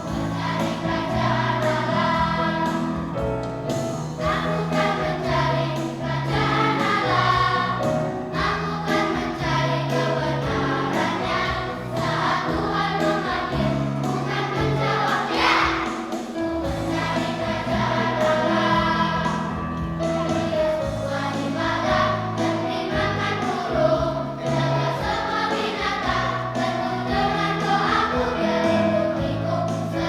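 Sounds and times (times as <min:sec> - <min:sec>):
church choir singing: 0:00.0 - 0:30.0.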